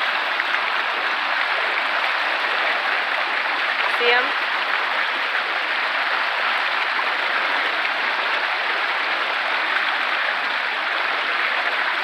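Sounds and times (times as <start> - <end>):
water rushing through fish ladder: 0.0 - 12.0.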